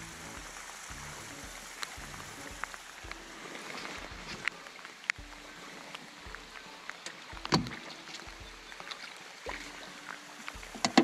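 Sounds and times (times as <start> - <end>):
light rain: 0.0 - 11.0.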